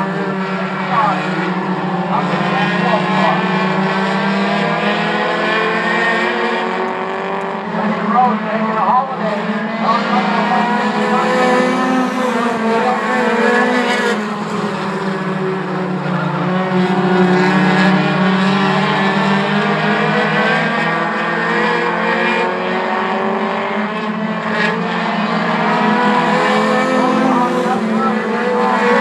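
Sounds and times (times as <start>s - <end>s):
race car engines droning: 0.0s - 29.0s.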